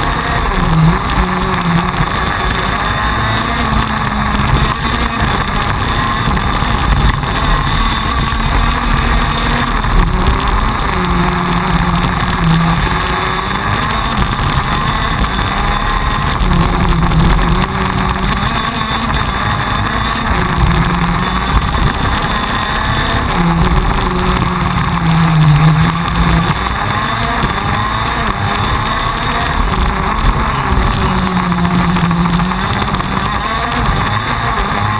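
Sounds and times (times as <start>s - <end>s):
kart engine revving: 0.0s - 34.9s.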